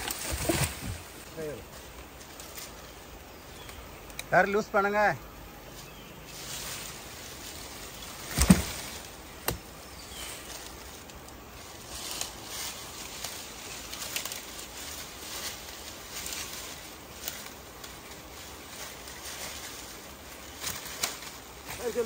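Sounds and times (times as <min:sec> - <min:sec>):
leaves and twigs crackling underfoot: 0:00.0 - 0:22.0.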